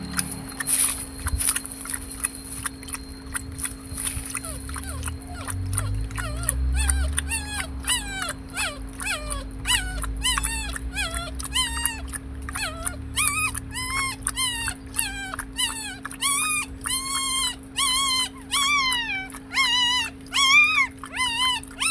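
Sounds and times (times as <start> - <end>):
puppies whining and whimpering: 0.0 - 21.9.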